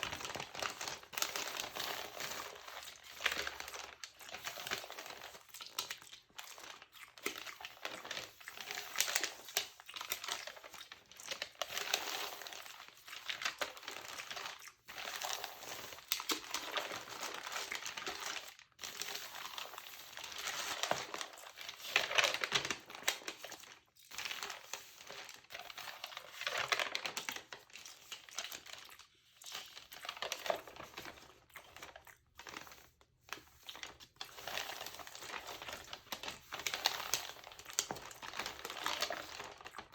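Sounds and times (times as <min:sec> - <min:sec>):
paper crinkling: 0:00.0 - 0:29.0, 0:29.6 - 0:39.9.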